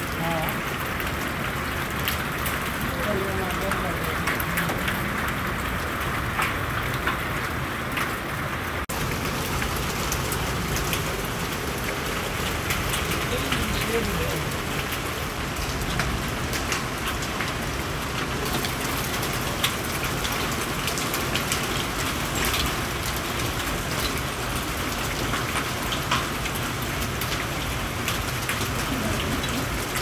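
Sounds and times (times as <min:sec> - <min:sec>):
heavy rain pouring: 0:00.0 - 0:30.0
raindrops ticking: 0:00.0 - 0:30.0.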